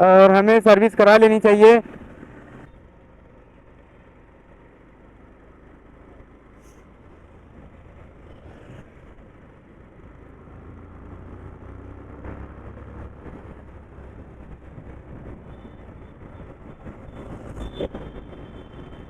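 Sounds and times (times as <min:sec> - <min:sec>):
wind and road noise: 0:00.0 - 0:19.0
motorcycle engine rumble: 0:01.8 - 0:19.0.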